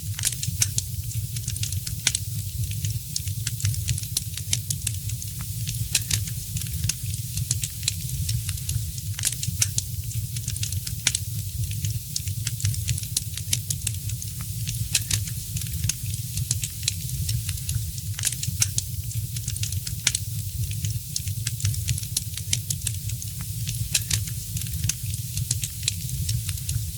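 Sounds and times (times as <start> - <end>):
fireplace fire crackling and popping: 0.0 - 26.9.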